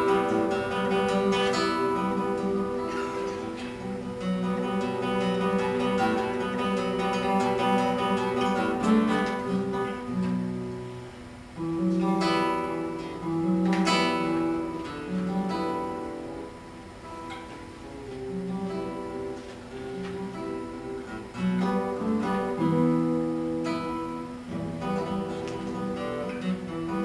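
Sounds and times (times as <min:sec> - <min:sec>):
classical guitar fingerstyle: 0:00.0 - 0:27.0.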